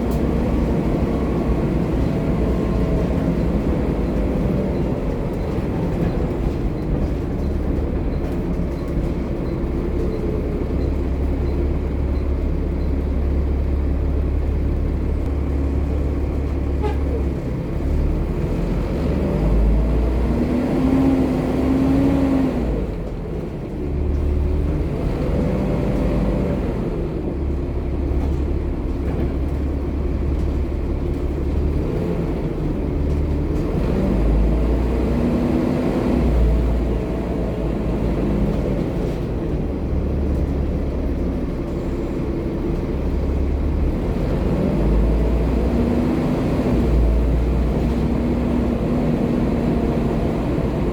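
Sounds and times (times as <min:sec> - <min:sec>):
bus engine rumble with whine: 0:00.0 - 0:50.9.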